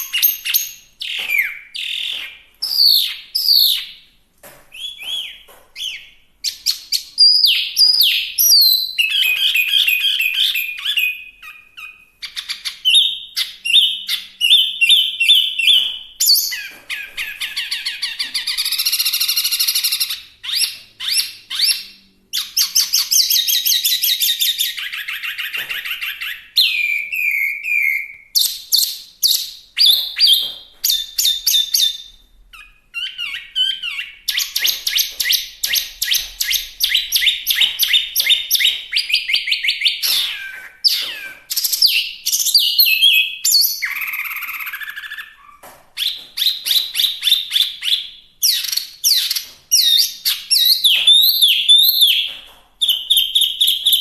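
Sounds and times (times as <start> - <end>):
bird singing: 0.0 - 4.1, 4.7 - 54.0.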